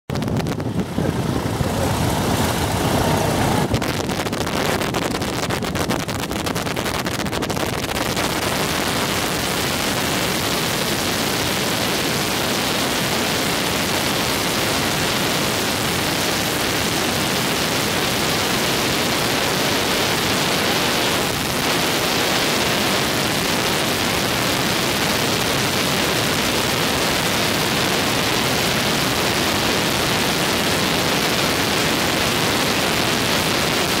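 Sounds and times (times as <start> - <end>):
biplane engine and propeller: 0.1 - 34.0
wind buffeting microphone: 0.1 - 34.0.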